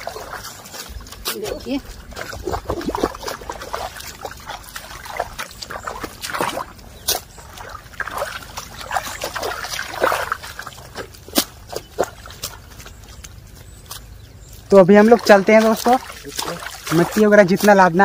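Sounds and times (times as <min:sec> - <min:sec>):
hoes working mud: 0:00.0 - 0:18.0
splashing through muddy water: 0:00.0 - 0:18.0.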